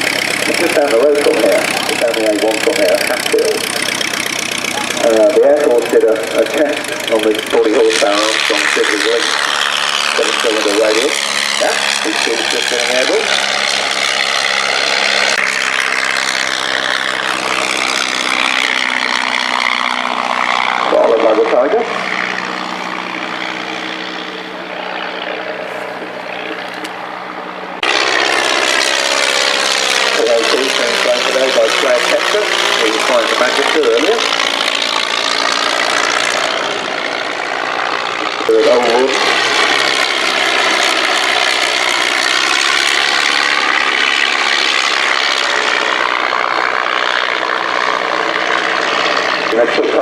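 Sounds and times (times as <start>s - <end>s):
propeller aircraft engine drone: 0.0s - 50.0s.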